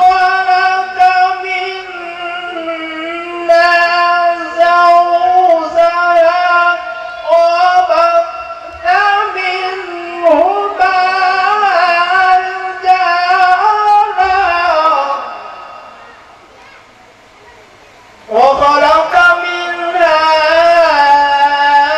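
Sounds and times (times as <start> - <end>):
man chanting melodically: 0.0 - 16.4, 18.2 - 21.9.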